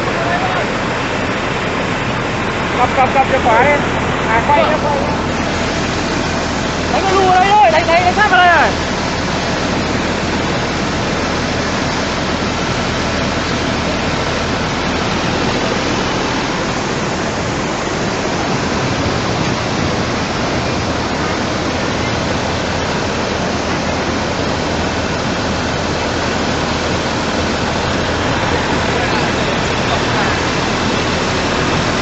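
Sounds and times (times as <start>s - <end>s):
floodwater roaring: 0.0s - 32.0s.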